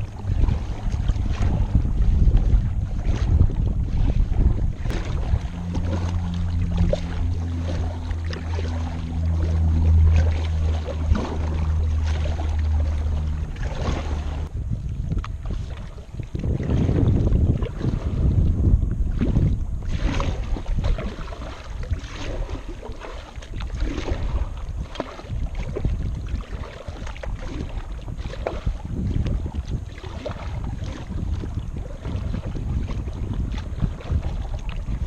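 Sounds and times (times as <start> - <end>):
water lapping against kayak: 0.0 - 35.0
wind buffeting microphone: 0.0 - 35.0.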